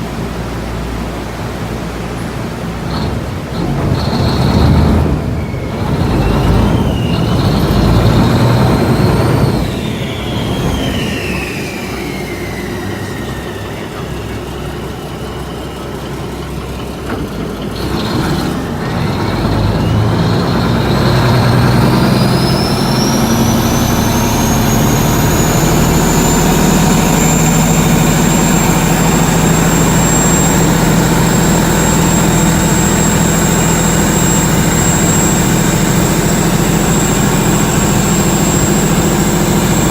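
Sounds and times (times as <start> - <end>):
boat diesel engine whining: 0.0 - 39.9.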